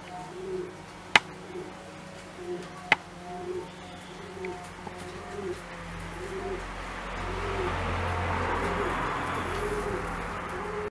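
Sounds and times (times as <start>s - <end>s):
low rumbling hiss: 0.0s - 10.9s
pigeon cooing: 0.0s - 10.9s.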